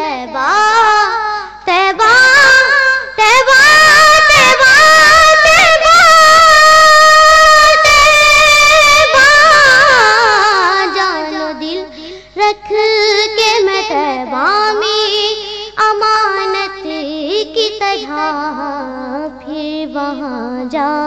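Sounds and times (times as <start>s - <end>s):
boy singing melisma: 0.0s - 21.0s.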